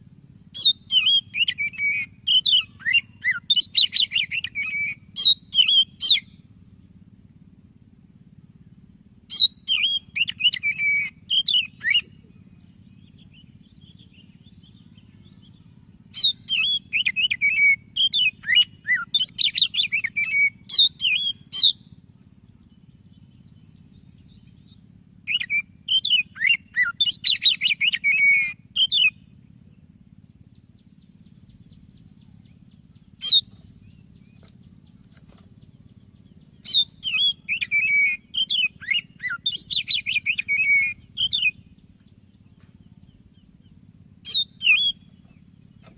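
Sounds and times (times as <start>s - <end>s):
faint low hum: 0.0s - 45.9s
bird singing chirps and whistles: 0.5s - 6.4s, 9.3s - 21.9s, 22.7s - 29.4s, 30.3s - 45.9s.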